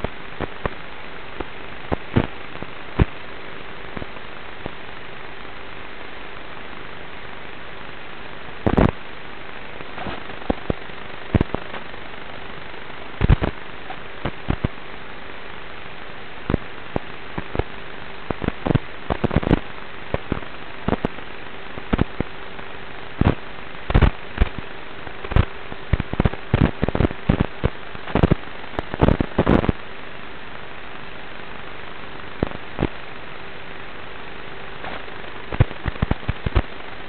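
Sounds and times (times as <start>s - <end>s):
steady hiss and faint hum: 0.0s - 37.0s.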